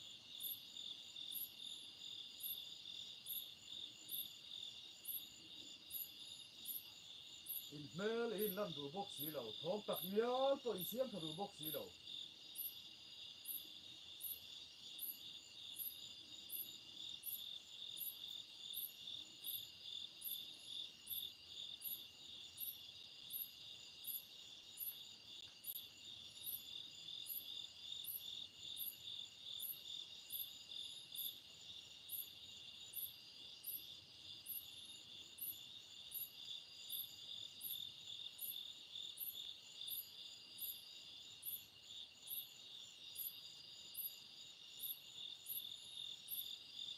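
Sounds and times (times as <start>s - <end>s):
crickets trilling: 0.0s - 46.9s
higher insect chirp: 0.0s - 46.9s.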